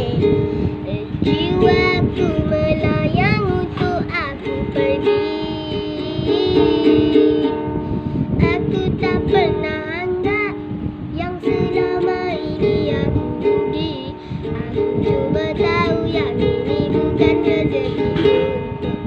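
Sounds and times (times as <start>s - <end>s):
child singing: 0.0s - 7.7s, 8.4s - 18.6s
acoustic guitar strumming: 0.0s - 19.0s.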